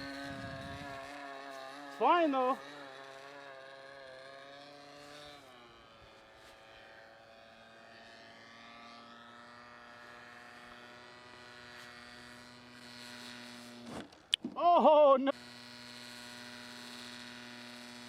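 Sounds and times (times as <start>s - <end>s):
distant model airplane engine: 0.0s - 18.0s.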